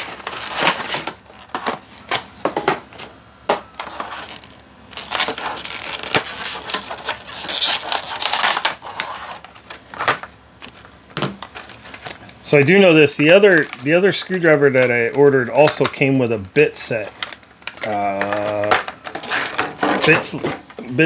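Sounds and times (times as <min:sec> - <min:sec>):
packaging rustling and crinkling: 0:00.0 - 0:16.0, 0:16.9 - 0:20.8.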